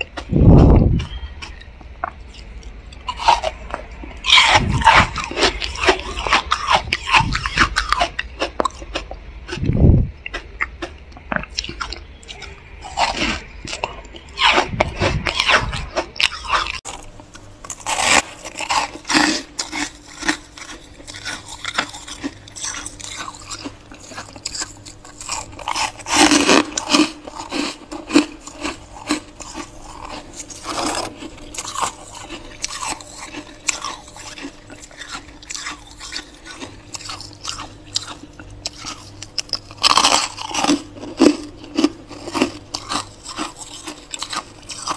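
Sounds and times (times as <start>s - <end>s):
freezer frost crunching: 0.0s - 44.9s.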